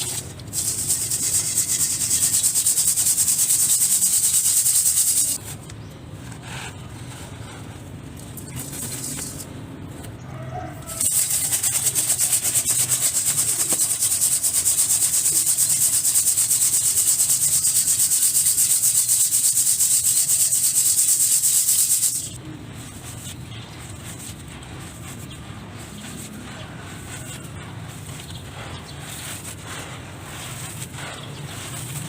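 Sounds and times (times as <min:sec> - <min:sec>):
gritty scraping strokes: 0:00.0 - 0:32.0.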